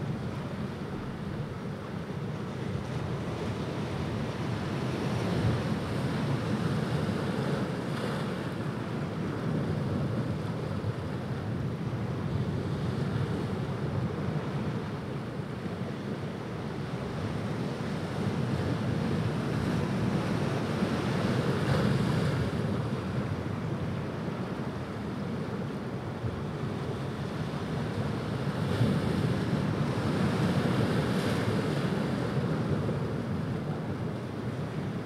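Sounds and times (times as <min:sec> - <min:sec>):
ocean waves breaking: 0:00.0 - 0:35.0.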